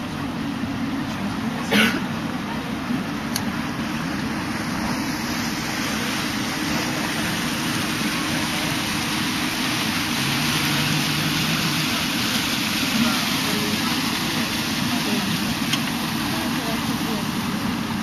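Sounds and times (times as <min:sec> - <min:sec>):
boat engine running: 0:00.0 - 0:18.0
water rushing: 0:00.0 - 0:18.0.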